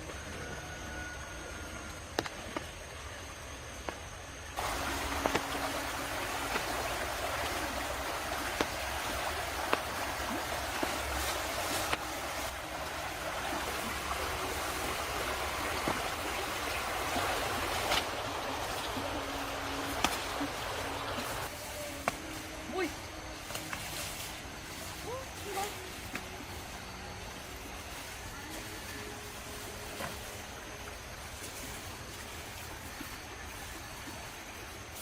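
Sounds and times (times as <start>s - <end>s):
stream water running: 0.0s - 35.0s.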